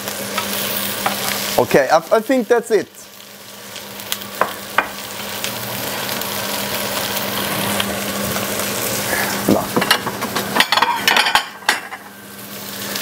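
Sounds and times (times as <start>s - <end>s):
meatballs sizzling in a frying pan: 0.0s - 13.0s.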